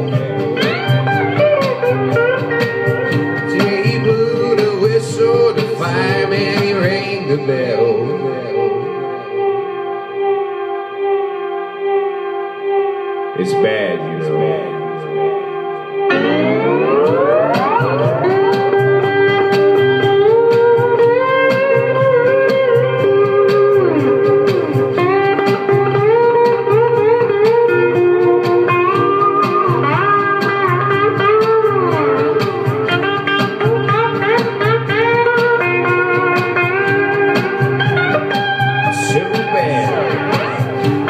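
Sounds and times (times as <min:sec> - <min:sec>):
bluesy slide guitar over beat: 0:00.0 - 0:10.1, 0:13.4 - 0:41.0.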